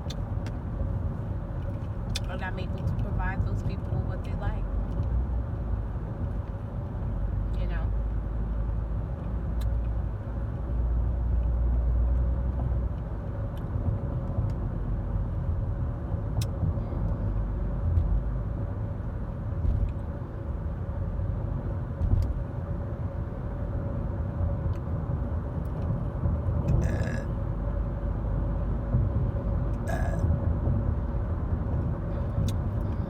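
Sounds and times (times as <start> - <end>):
road and engine rumble in car: 0.0 - 33.0.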